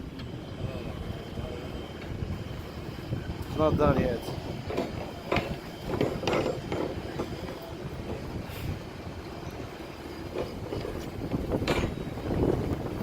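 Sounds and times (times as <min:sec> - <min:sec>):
construction site low rumble: 0:00.0 - 0:13.0.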